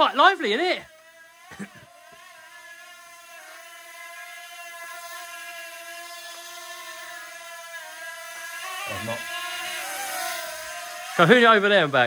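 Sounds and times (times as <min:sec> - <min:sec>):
toy quadcopter propellers whining: 0:00.0 - 0:12.0.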